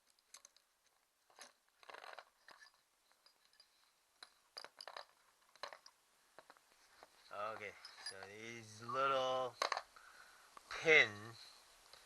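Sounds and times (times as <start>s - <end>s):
light metallic clicks and clinks: 0.0s - 9.9s.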